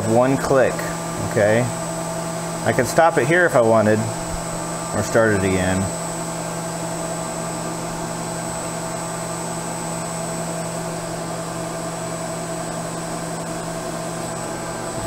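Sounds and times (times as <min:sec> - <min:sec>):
faint high whine: 0:00.0 - 0:15.0
milling machine humming: 0:00.0 - 0:15.0.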